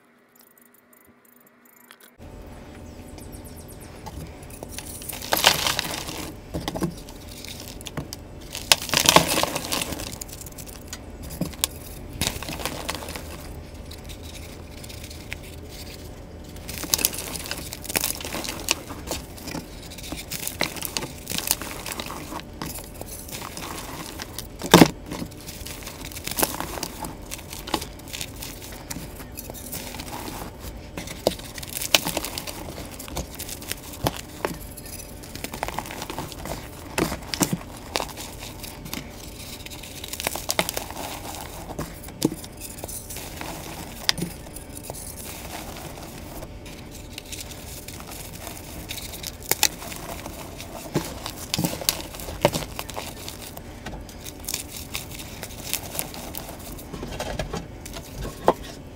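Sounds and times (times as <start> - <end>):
chalk blocks crunching: 3.9 - 58.9.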